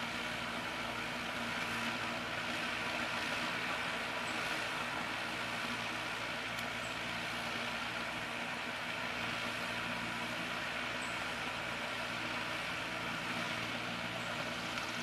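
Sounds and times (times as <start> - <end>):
steady background hum and hiss: 0.0 - 15.0.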